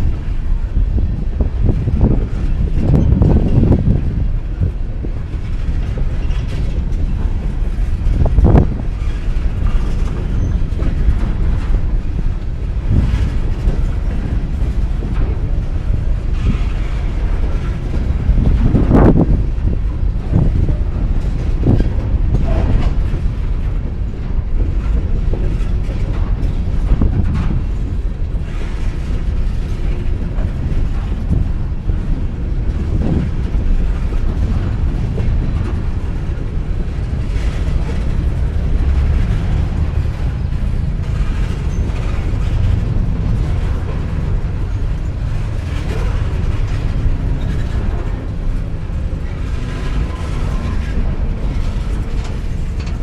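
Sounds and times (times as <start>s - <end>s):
train wheels clattering over rails: 0.0s - 53.0s.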